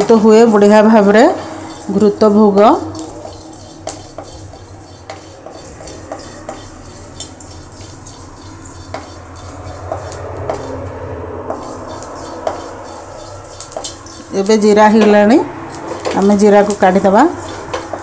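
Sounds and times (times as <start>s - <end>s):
metal spatula scraping a metal pan: 0.0s - 18.0s.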